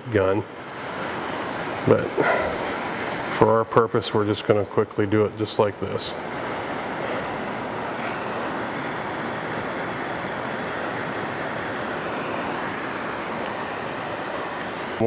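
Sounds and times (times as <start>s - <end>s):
handheld torch hissing: 0.3s - 15.0s.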